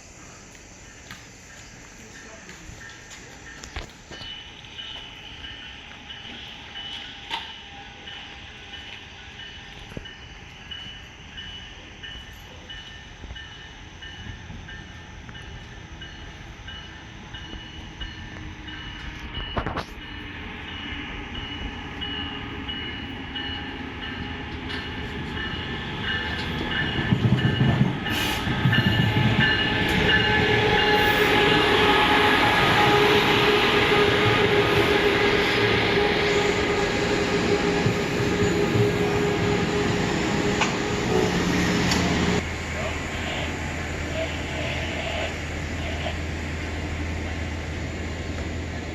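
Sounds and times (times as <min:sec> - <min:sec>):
steady ringing tones: 0:00.0 - 0:48.0
train rumbling: 0:00.0 - 0:48.9.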